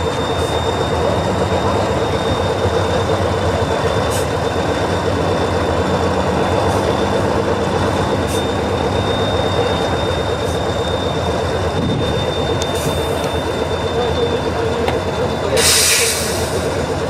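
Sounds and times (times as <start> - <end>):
truck diesel engine under load: 0.0 - 17.0.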